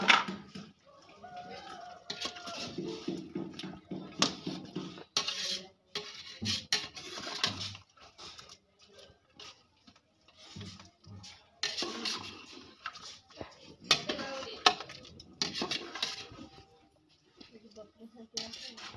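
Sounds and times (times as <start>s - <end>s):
metal ladle scraping a pot: 1.9s - 16.8s, 18.3s - 18.9s.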